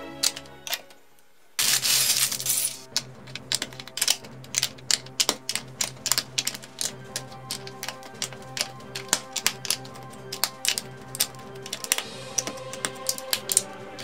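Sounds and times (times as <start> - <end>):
plastic bricks clicking: 0.2 - 1.0, 1.6 - 14.0
rustling: 0.2 - 12.1.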